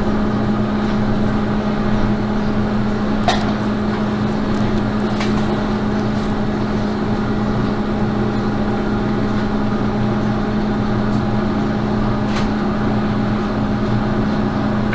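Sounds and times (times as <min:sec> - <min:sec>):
machine hum: 0:00.0 - 0:14.9.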